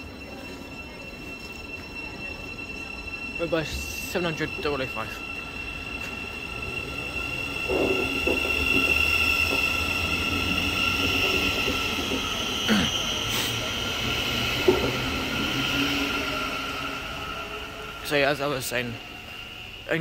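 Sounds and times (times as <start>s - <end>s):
brief falling tone: 0.0s - 19.8s
electric train whine and rumble: 0.0s - 20.0s.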